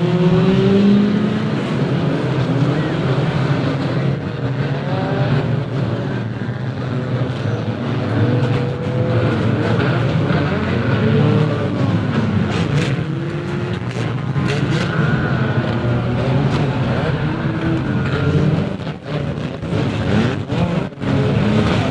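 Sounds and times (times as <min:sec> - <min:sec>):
racing car engines revving: 0:00.0 - 0:21.9.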